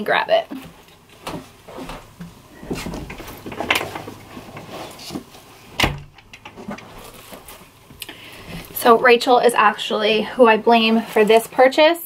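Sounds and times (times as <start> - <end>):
rustling: 0.6 - 12.0.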